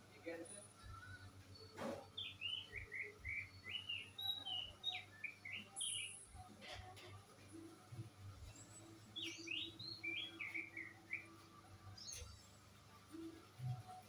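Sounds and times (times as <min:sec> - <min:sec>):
small bird chirping song: 0:00.2 - 0:14.0.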